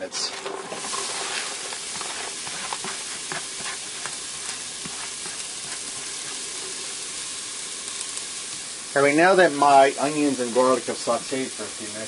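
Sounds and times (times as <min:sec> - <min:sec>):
garlic and onion sizzling in oil: 0:00.0 - 0:12.0.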